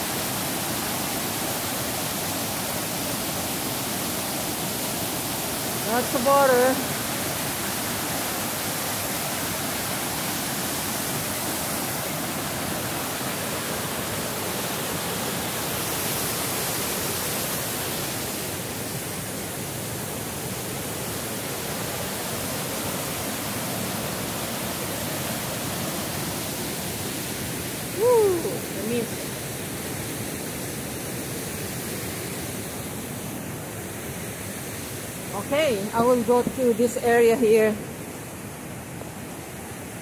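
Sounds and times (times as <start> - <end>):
waterfall rushing over rocks: 0.0 - 40.0.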